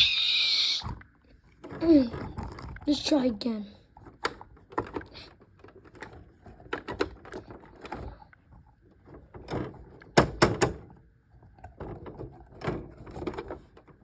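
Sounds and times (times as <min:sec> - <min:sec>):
objects knocking and clunking: 0:01.3 - 0:03.1, 0:03.9 - 0:14.0.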